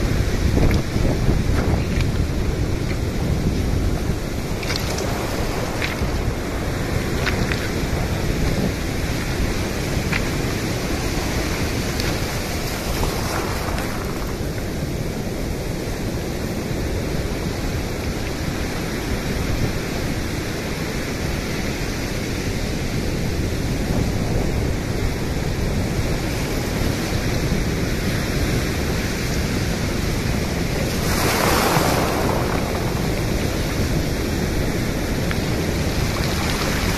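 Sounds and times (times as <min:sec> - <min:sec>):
waves washing over pebbles: 0:00.0 - 0:36.9.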